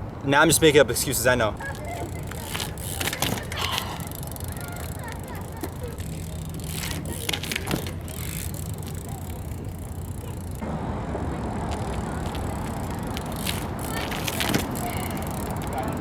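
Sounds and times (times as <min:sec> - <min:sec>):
bike tyres rolling on pavement: 0:00.0 - 0:16.0.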